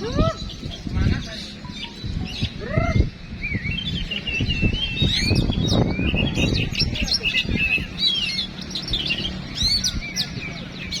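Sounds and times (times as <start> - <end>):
crowd murmur: 0.0 - 11.0
songbirds singing: 0.0 - 11.0.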